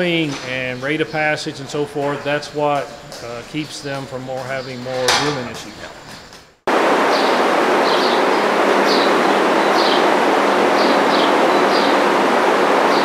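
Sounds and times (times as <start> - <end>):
ventilation fans rushing: 0.0 - 13.0.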